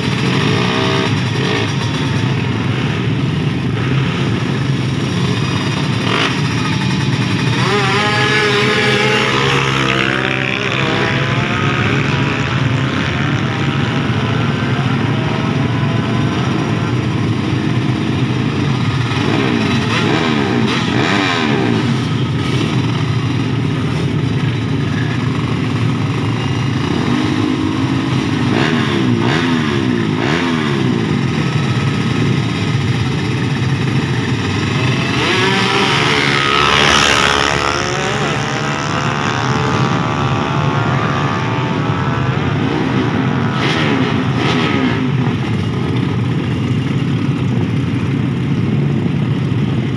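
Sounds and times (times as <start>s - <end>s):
motorcycle engines revving: 0.0s - 49.9s
other motorcycles running: 0.0s - 49.9s.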